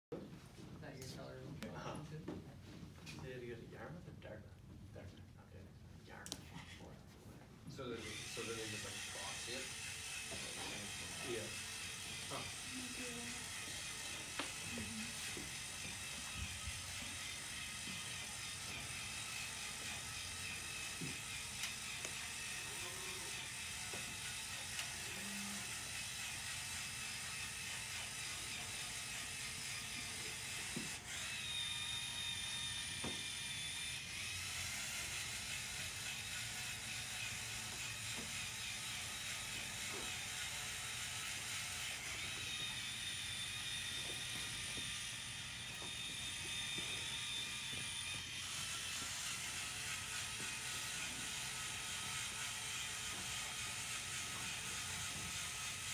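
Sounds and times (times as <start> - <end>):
small electric motors whirring: 7.6 - 55.9
high motor whine: 7.7 - 55.9.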